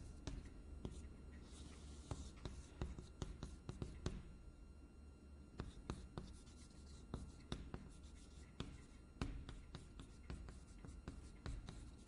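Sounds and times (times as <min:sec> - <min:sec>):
chalk tapping and scratching: 0:00.0 - 0:04.3, 0:05.6 - 0:12.0.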